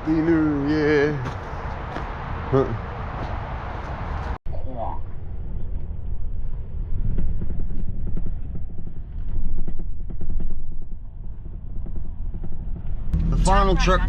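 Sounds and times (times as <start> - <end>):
truck engine and road rumble: 0.0 - 9.3, 10.9 - 14.0.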